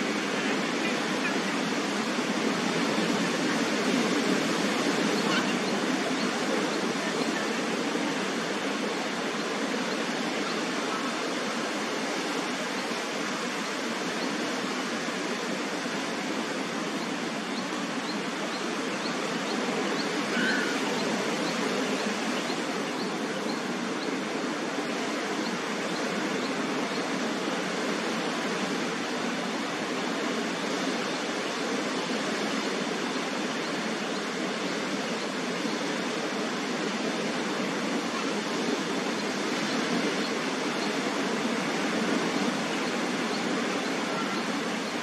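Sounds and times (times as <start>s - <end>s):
steady rushing outdoor noise: 0.0s - 45.0s.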